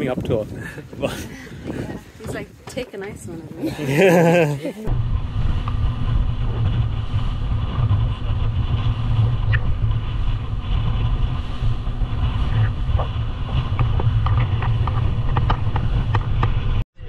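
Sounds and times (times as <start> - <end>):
boat motor rumbling: 1.6 - 16.8.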